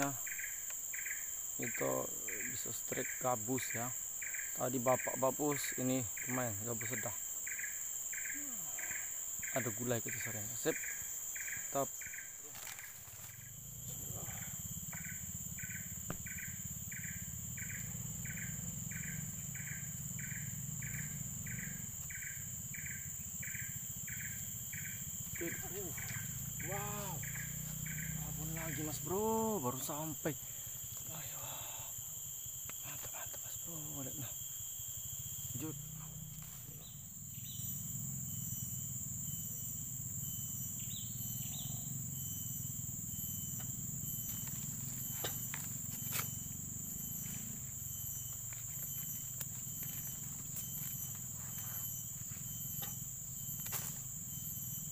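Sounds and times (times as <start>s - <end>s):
high insect drone: 0.0s - 54.9s
insect chirps: 0.0s - 54.9s.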